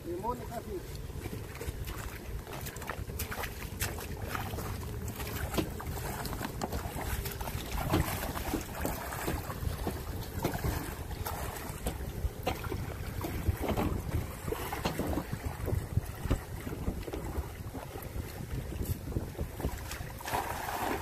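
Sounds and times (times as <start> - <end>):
wind rumble on microphone: 0.0 - 21.0
legs splashing in shallow water: 0.1 - 21.0.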